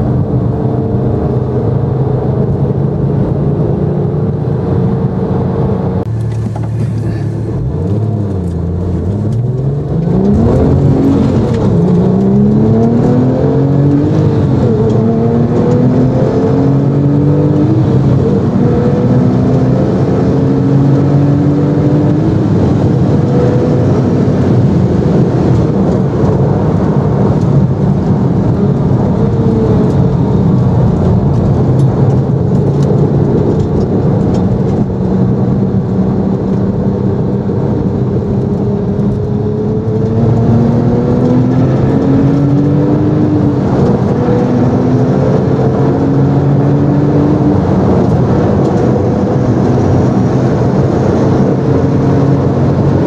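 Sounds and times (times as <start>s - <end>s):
car engine accelerating hard: 0.0s - 53.0s
wind and road noise: 0.0s - 53.0s.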